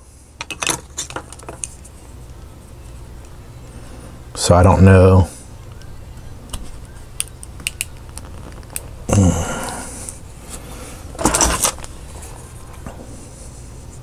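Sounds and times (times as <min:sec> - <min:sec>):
handling noises: 0:00.4 - 0:03.4, 0:05.6 - 0:14.0.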